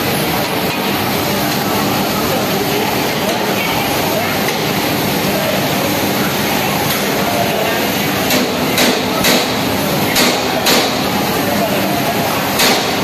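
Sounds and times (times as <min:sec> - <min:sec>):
laundry machinery running: 0:00.0 - 0:13.0.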